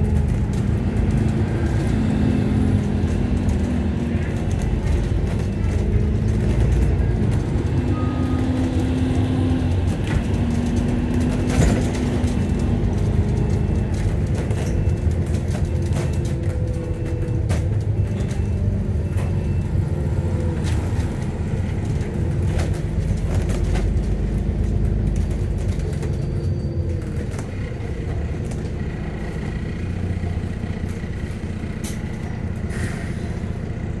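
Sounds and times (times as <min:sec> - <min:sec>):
interior rattles and clicks: 0:00.0 - 0:32.7
bus engine rumble: 0:00.0 - 0:34.0.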